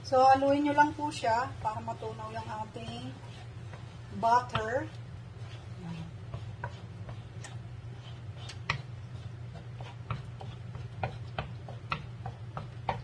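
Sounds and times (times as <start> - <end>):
low steady hum: 0.0 - 13.0
wooden spoon stirring: 0.1 - 13.0.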